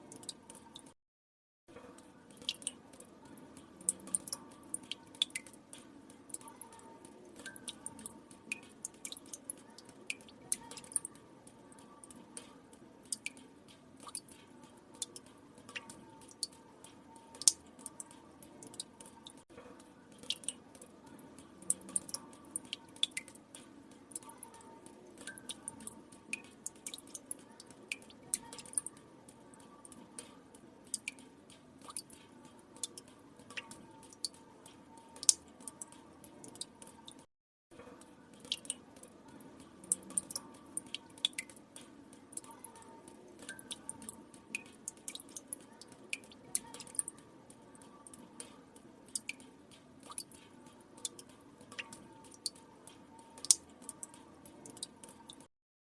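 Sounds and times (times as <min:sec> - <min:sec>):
water drops dripping into water: 0:00.0 - 0:01.0, 0:01.7 - 0:55.5.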